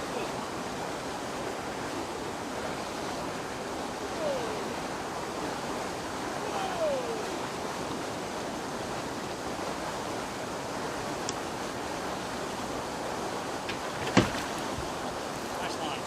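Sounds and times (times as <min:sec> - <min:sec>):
rushing water: 0:00.0 - 0:16.0
wind: 0:00.0 - 0:16.0.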